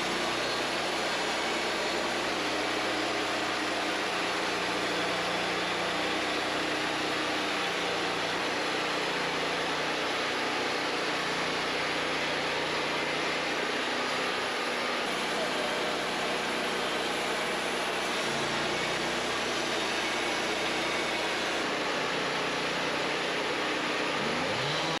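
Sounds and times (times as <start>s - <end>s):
portable sawmill running: 0.0s - 25.0s.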